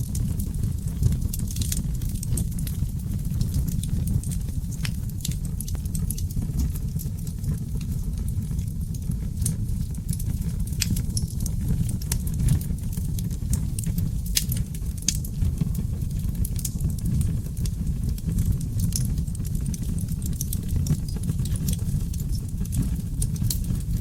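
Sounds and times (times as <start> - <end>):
fire crackles and pops: 0.0 - 24.0
low rumble of flame: 0.0 - 24.0.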